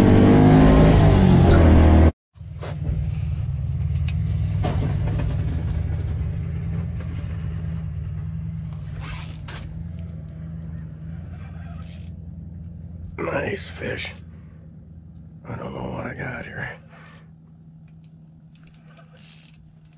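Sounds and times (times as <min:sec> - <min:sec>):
low engine hum: 0:00.0 - 0:19.9.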